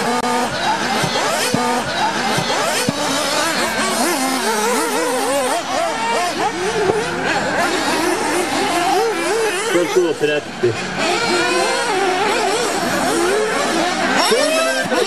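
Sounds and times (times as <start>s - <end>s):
rc buggy engines buzzing: 0.0s - 15.0s.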